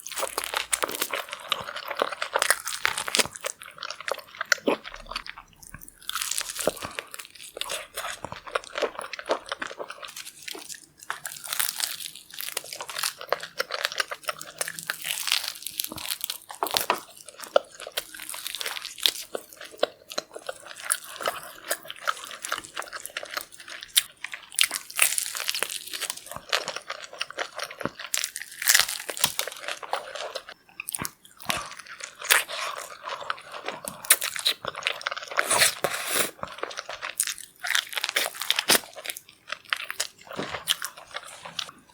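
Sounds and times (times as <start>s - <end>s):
crunching and chewing: 0.0s - 41.9s.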